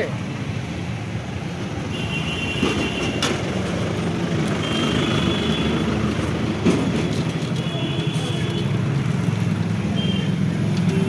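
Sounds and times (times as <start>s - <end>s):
traffic engine rumble: 0.0s - 11.0s.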